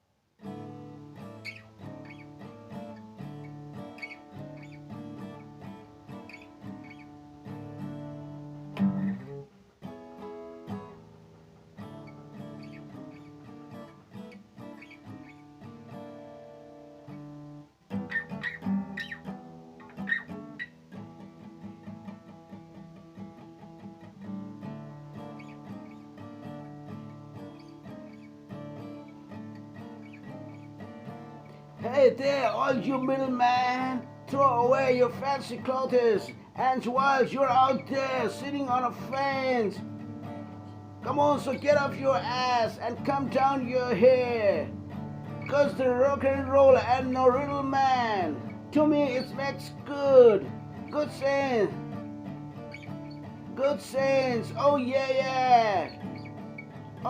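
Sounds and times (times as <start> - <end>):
acoustic guitar strumming: 0.4 - 57.0.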